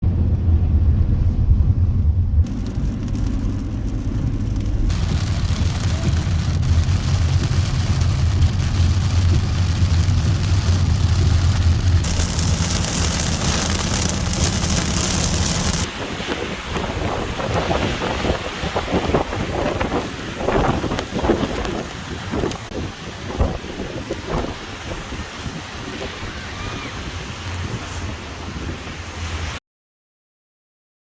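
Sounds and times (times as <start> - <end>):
car road rumble: 0.0 - 29.6
rain hissing: 2.4 - 29.6.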